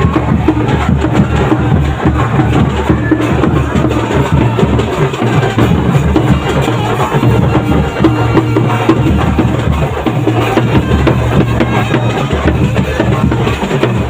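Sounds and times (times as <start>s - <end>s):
loud drum-led music: 0.0s - 14.0s.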